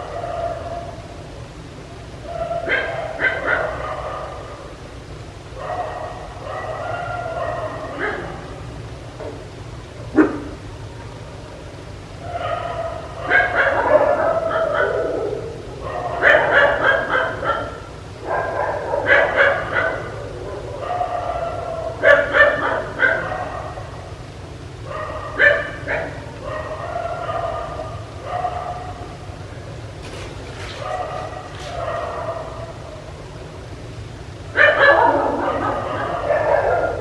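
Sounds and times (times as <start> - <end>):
dog barking: 0.0 - 1.0, 2.2 - 4.8, 5.6 - 8.8, 10.1 - 10.7, 12.2 - 24.2, 24.8 - 29.4, 30.0 - 33.4, 34.5 - 37.0.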